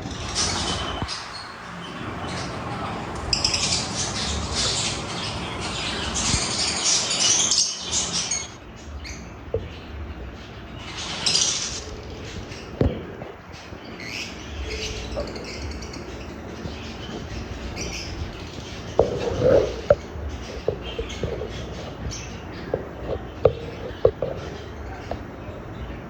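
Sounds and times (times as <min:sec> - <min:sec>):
lovebirds chattering: 0:00.0 - 0:26.0.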